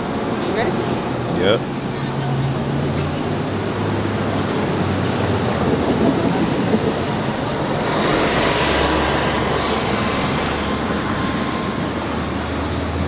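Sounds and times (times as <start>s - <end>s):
city street traffic: 0.0s - 13.0s
vehicle passing: 0.6s - 13.0s.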